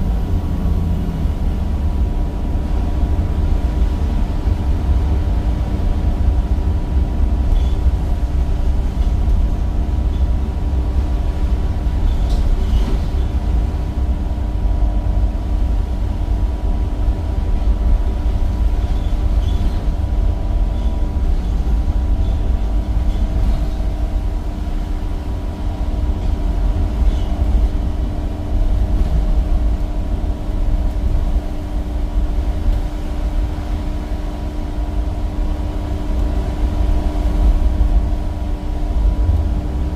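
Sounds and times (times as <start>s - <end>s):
bus engine rumble: 0.0s - 39.9s
constant whine: 0.0s - 39.9s.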